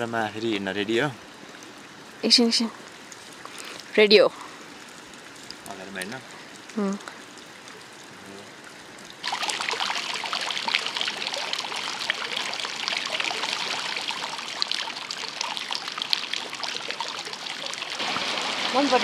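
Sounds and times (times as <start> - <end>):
water pouring from spouts: 0.0 - 19.0.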